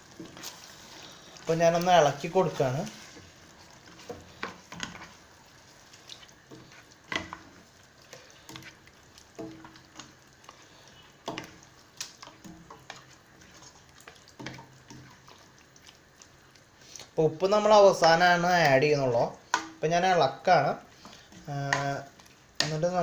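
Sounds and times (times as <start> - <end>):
faint sizzle: 0.0 - 23.0
ladle stirring thick sauce: 0.0 - 23.0.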